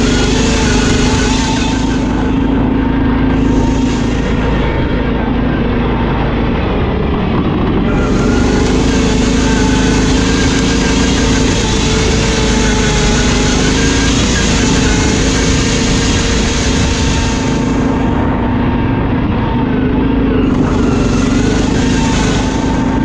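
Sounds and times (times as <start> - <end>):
broad rushing noise: 0.0 - 23.0
lawn mower engine running: 0.0 - 23.0.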